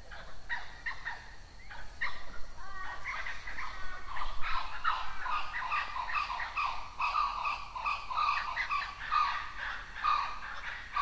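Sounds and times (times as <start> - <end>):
kookaburra cackling call: 0.1 - 11.0.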